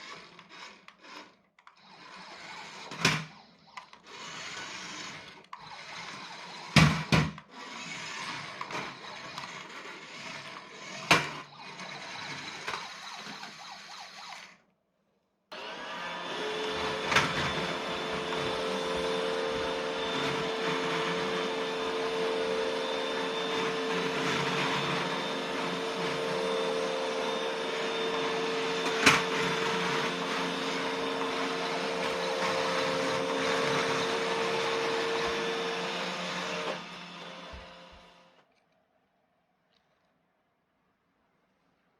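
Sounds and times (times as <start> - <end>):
robot vacuum motor whir: 0.0 - 14.6, 15.5 - 38.4.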